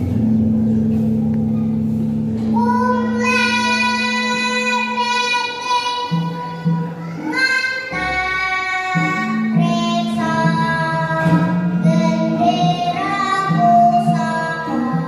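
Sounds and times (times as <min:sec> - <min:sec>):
musical accompaniment with bass: 0:00.0 - 0:15.0
child singing: 0:02.5 - 0:15.0.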